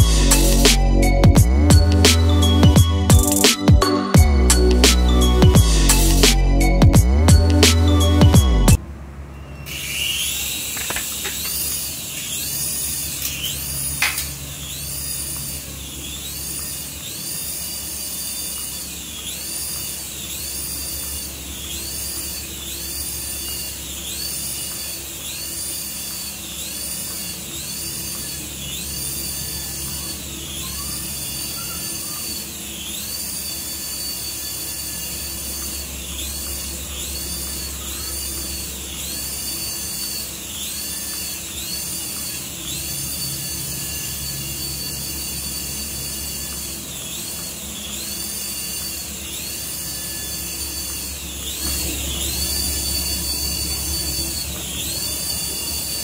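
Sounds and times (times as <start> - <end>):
toy helicopter rotor motors whining: 0.0 - 8.8, 9.5 - 56.0.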